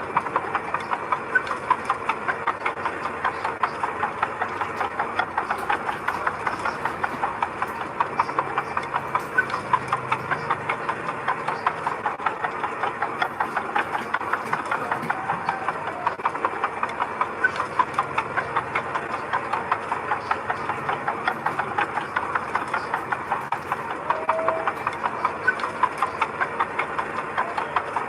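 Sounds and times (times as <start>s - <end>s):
diesel engine clattering: 0.0s - 28.0s.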